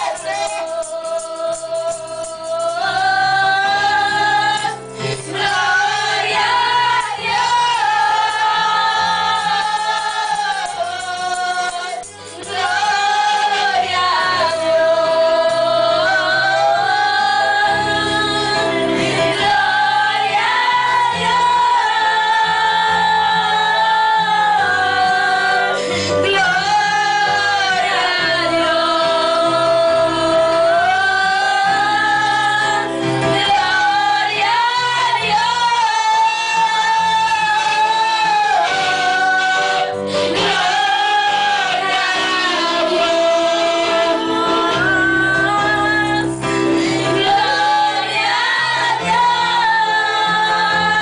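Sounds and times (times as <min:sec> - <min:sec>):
instrumental accompaniment with bass: 0:00.0 - 0:51.0.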